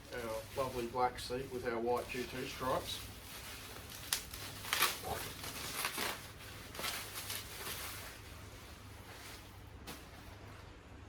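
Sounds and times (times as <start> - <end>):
handling rustles and light knocks: 0.0 - 10.6.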